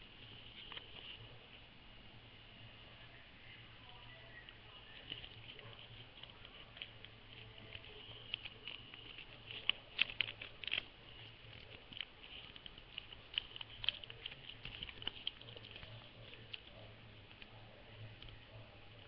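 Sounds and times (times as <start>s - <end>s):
faint low hum: 0.0s - 19.0s
paper being folded and creased: 0.2s - 1.4s, 4.9s - 19.0s.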